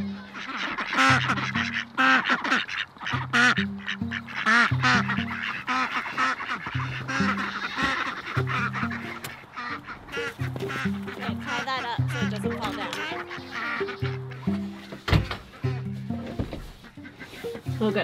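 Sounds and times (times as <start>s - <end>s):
ducks quacking: 0.0s - 18.0s
background music with bass line: 1.0s - 2.1s, 3.1s - 18.0s.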